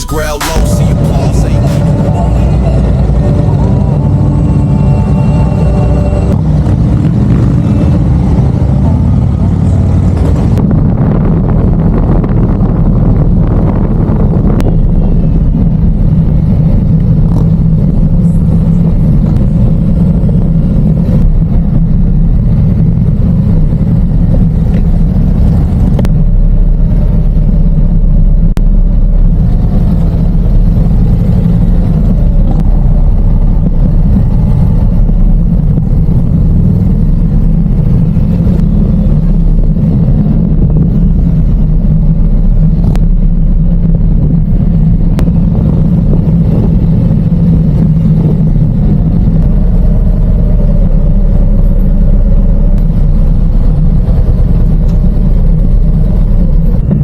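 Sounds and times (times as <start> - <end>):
motorcycle engine and road rumble: 0.0 - 57.0.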